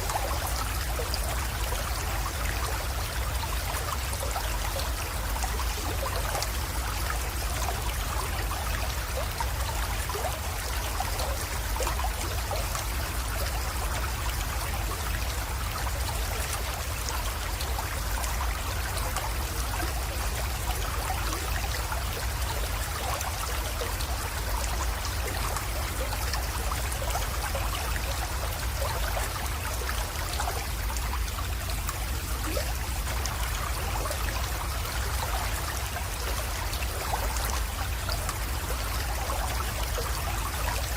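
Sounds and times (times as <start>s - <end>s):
creek water trickling: 0.0s - 40.9s.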